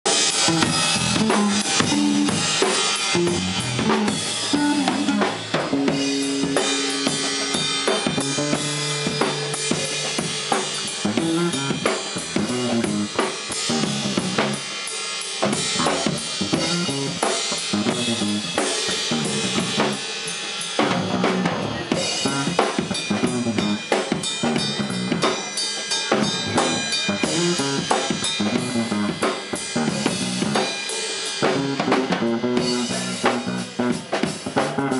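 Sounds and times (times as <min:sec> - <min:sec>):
electric bass: 0:00.0 - 0:25.4, 0:26.1 - 0:34.9
drum kit playing: 0:00.0 - 0:34.9.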